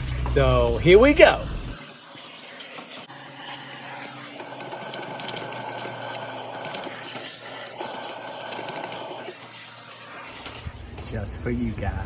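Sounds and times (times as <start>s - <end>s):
vacuum cleaner running: 0.0s - 11.1s.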